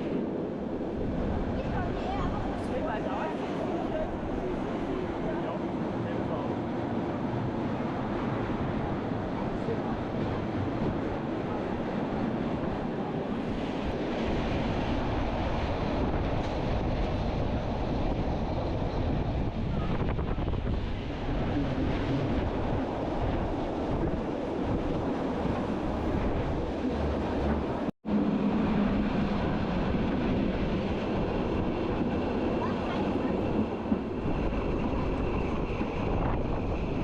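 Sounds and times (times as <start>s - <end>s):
train running rumble: 0.0s - 37.0s
wind buffeting microphone: 0.0s - 37.0s.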